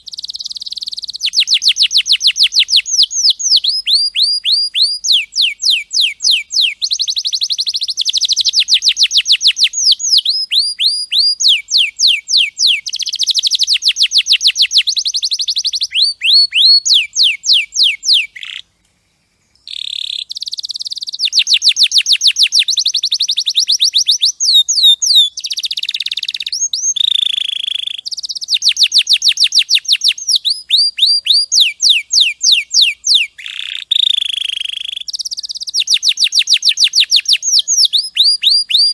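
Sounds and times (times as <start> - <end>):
canary singing: 0.0 - 18.7, 19.6 - 38.9.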